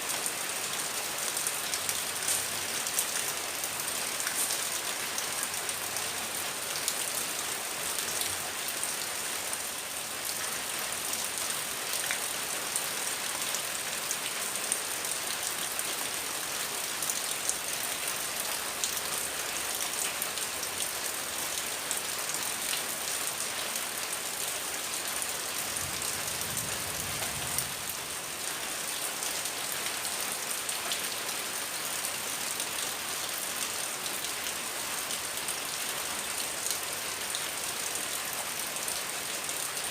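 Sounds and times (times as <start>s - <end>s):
raindrops ticking on surfaces: 0.1s - 39.9s.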